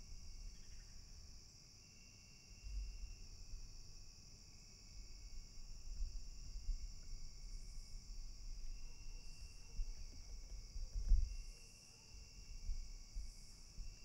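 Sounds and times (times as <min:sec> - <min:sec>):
faint insect buzz: 0:00.0 - 0:14.0
insects trilling: 0:00.1 - 0:14.0.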